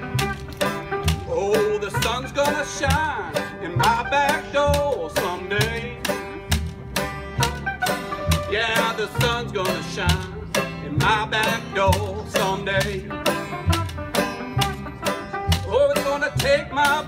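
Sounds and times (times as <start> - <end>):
string band playing: 0.0 - 17.0.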